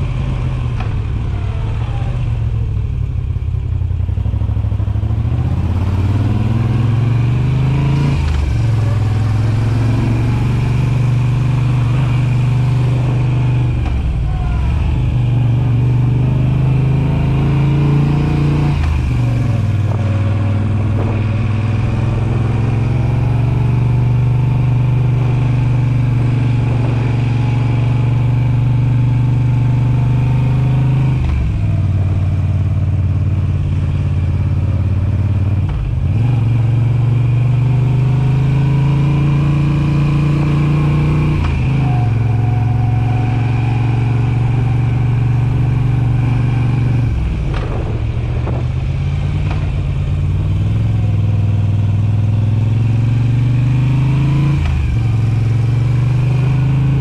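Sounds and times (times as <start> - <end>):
motorcycle engine riding: 0.0 - 57.0.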